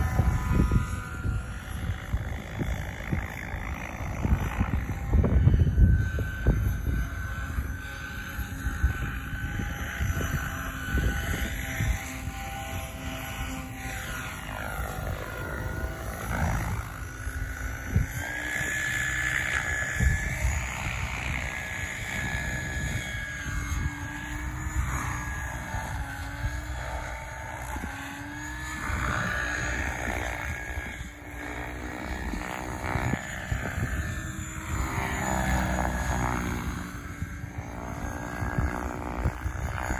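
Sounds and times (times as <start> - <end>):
helicopter rotors whining: 0.0 - 39.9.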